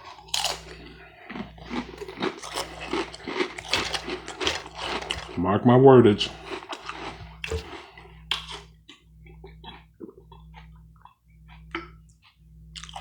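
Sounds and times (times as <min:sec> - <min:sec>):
chewing sandwich: 0:00.0 - 0:05.5, 0:06.1 - 0:13.0
faint low hum: 0:00.0 - 0:13.0.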